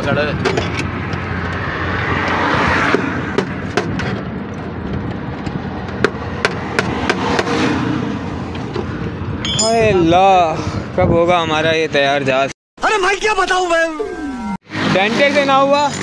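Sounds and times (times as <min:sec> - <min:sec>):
road traffic and engine noise: 0:00.0 - 0:12.6, 0:14.1 - 0:16.0.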